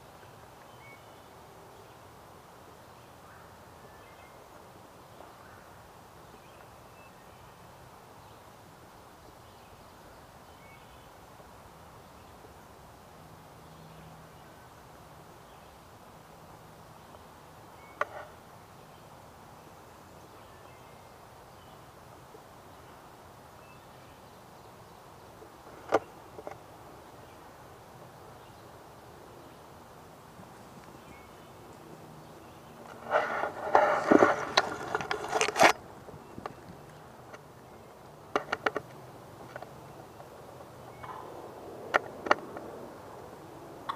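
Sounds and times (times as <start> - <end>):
faint background hiss: 0.0 - 43.9.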